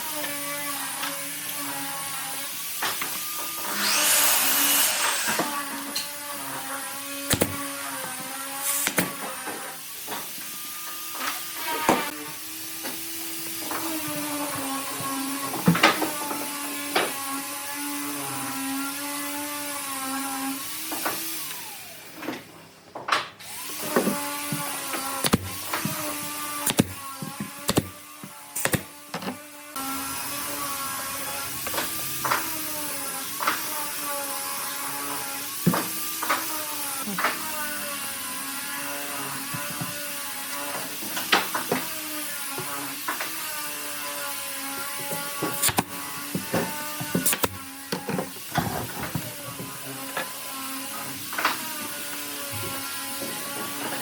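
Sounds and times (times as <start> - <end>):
electric power tool whining: 0.0 - 22.5, 23.4 - 54.0.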